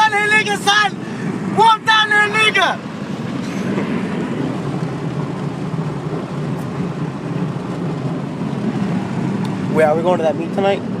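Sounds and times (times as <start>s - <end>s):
car cabin engine and road noise: 0.0s - 11.0s.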